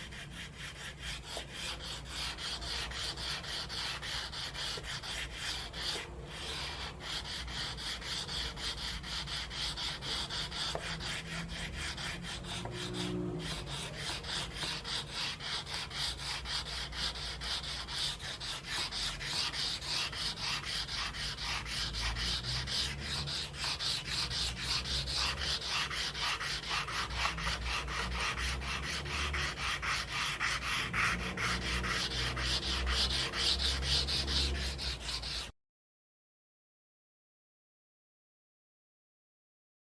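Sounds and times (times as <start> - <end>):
charcoal scratching on paper: 0.0 - 35.5.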